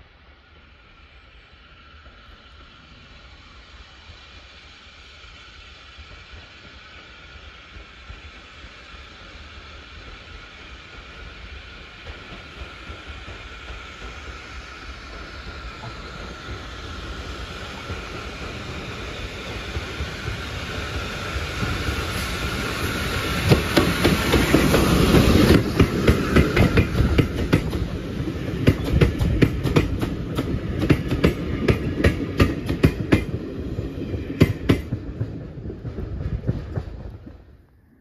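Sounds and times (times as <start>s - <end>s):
steam locomotive rumble passing: 0.0s - 38.0s.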